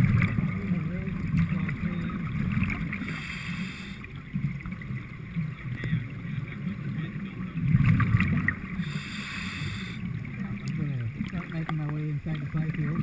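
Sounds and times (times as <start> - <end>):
muffled underwater rumble: 0.0 - 13.0.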